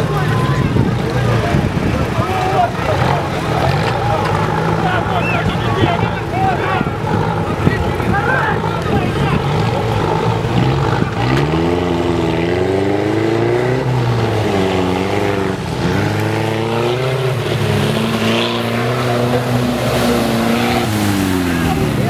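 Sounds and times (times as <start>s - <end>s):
off-road vehicle engine revving: 0.0s - 22.0s
vehicle driving through water: 0.0s - 22.0s.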